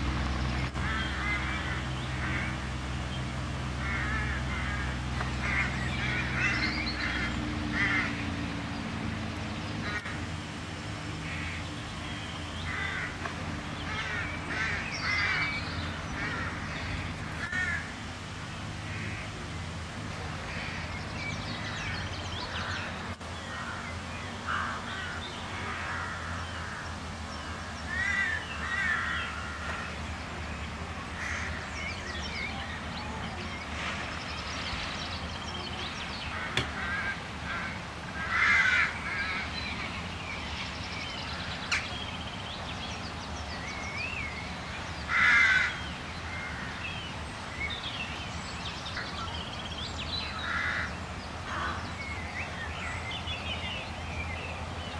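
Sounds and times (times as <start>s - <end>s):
birds calling: 0.0s - 54.9s
steady low hum: 0.0s - 54.9s.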